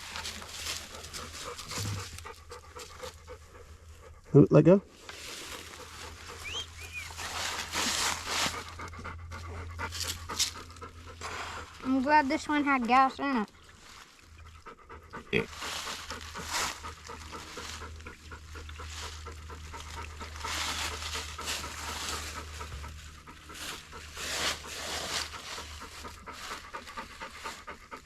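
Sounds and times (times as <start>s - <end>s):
fuel glugging and gurgling: 5.0s - 28.0s.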